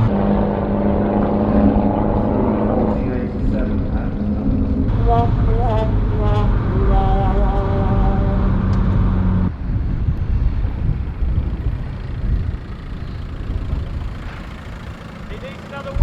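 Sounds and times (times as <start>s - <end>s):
car engine droning: 0.0s - 16.0s
rough uneven engine rumble: 0.0s - 16.0s.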